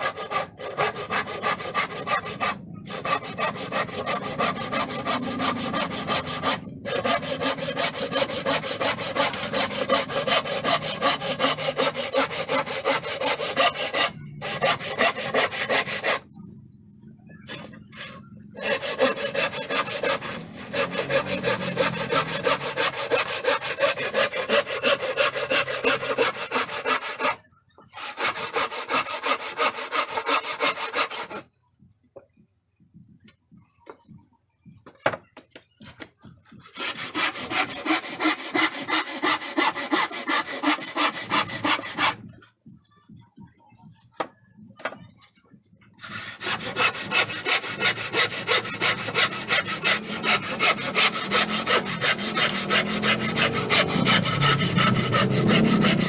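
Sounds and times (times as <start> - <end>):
handsaw cutting wood: 0.0 - 16.3, 17.4 - 31.5, 36.5 - 42.3, 46.0 - 56.0.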